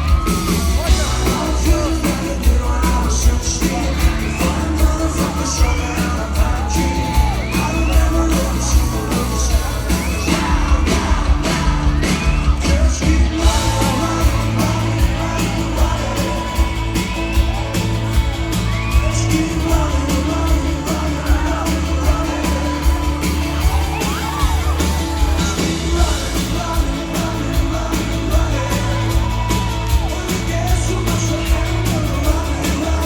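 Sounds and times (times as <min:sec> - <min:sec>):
crowd yelling and whooping: 0:00.0 - 0:33.0
live rock band playing: 0:00.0 - 0:33.0
person singing: 0:00.0 - 0:33.0.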